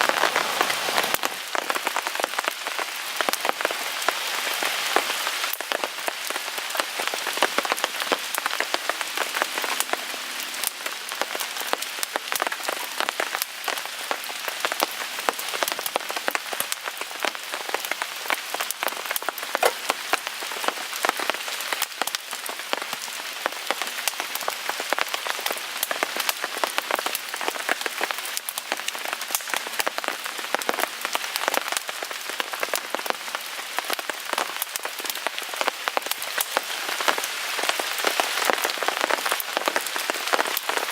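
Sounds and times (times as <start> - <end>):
rain pattering on a tarp: 0.0 - 40.9.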